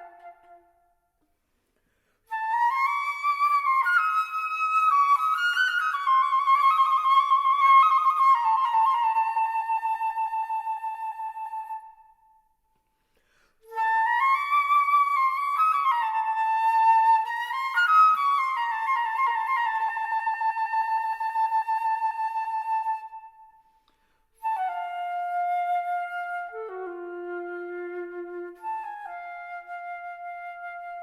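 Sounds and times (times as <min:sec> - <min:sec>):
flute playing with vibrato: 0:00.0 - 0:01.1, 0:02.3 - 0:12.4, 0:13.6 - 0:23.7, 0:24.4 - 0:31.0.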